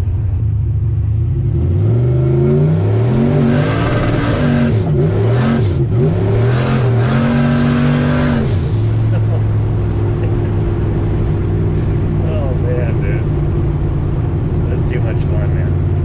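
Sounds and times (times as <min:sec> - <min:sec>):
engine accelerating hard: 0:00.0 - 0:16.0.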